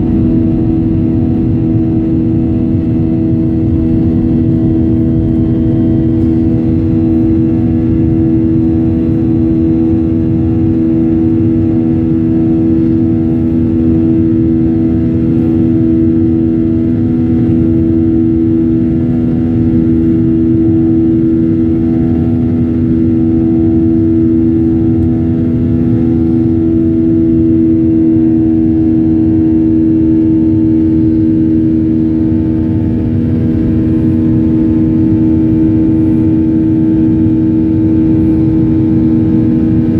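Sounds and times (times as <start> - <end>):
droning hum: 0.0 - 39.9
jet engines rumbling: 0.0 - 39.9.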